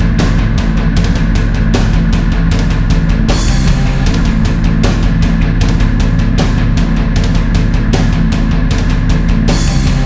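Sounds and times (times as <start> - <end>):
fast drum beat: 0.0 - 10.0
hard-driving rock music: 0.0 - 10.0.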